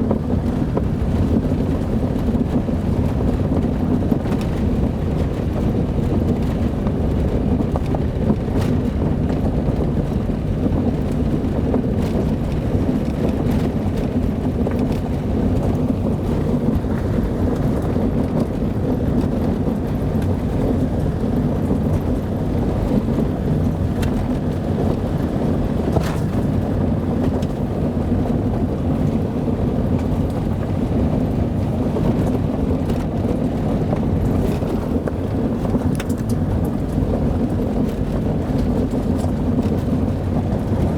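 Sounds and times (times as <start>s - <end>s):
car engine and tyre drone: 0.0s - 40.9s.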